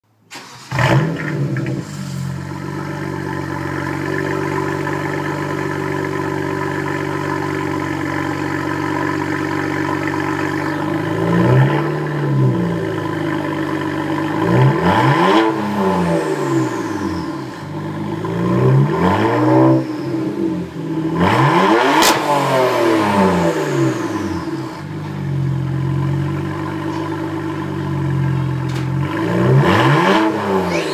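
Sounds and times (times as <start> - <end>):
car engine idling and revving: 0.3 - 30.9.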